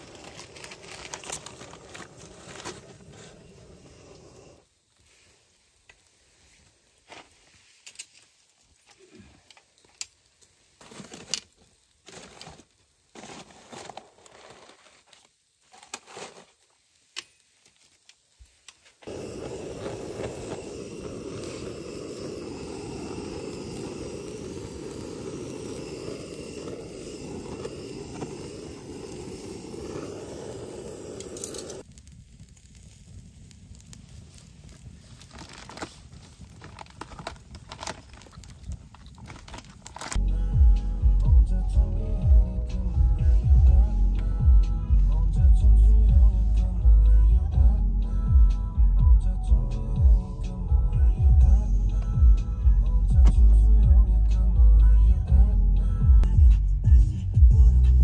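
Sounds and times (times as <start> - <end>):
crackles and clicks: 0.0 - 48.7
butane torch hissing: 0.0 - 48.8, 49.4 - 58.0.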